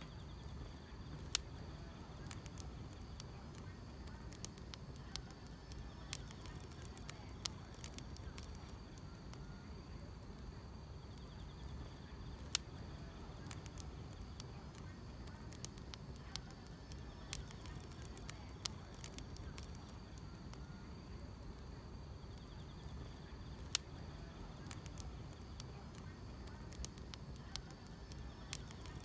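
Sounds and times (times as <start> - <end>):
grass insects trilling: 0.0 - 29.0
wood fire crackling and popping: 0.0 - 29.0.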